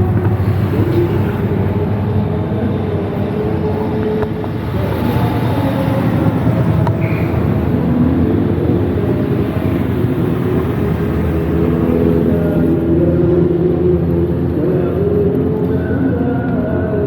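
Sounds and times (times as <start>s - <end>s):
car engines running loudly: 0.0s - 17.0s.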